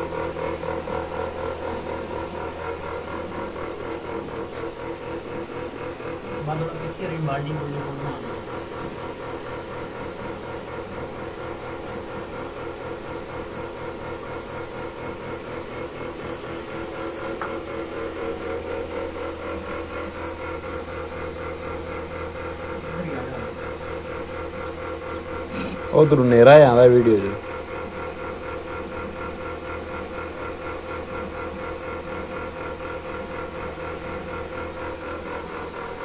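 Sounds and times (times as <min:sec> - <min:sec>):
motor humming steadily: 0:00.0 - 0:36.0.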